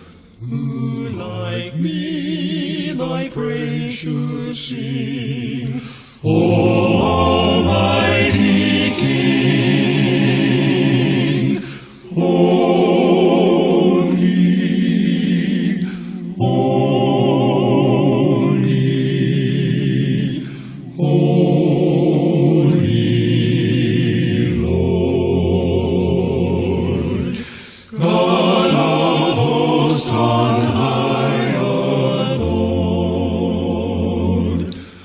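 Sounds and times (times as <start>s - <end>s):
a cappella vocal quartet singing: 0.0s - 35.0s.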